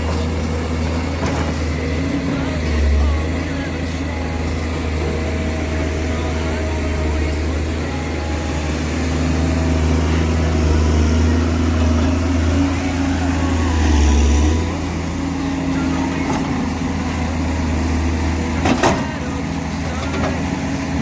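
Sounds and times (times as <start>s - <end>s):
excavator diesel engine droning: 0.0s - 21.0s.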